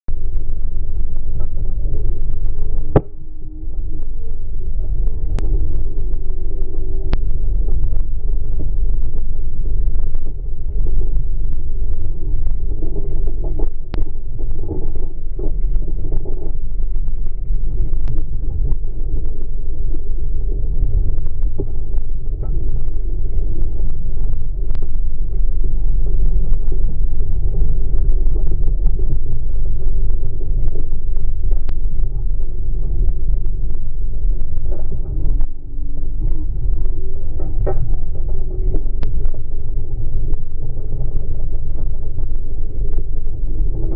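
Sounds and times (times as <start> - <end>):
wind rumble: 0.1 - 43.9.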